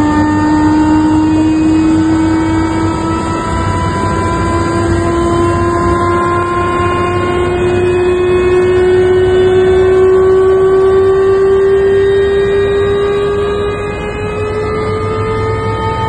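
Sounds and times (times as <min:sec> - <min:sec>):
helicopter engine whine: 0:00.0 - 0:16.0
helicopter low rumble: 0:00.0 - 0:16.0.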